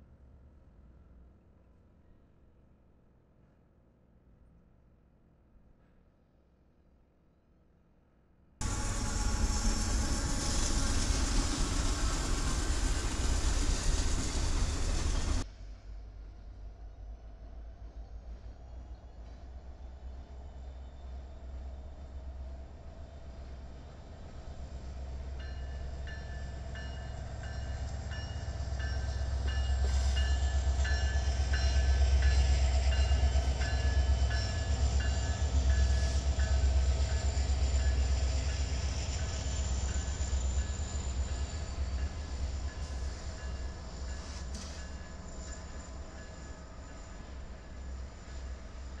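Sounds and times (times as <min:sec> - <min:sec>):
train rumbling past: 0:08.6 - 0:49.0.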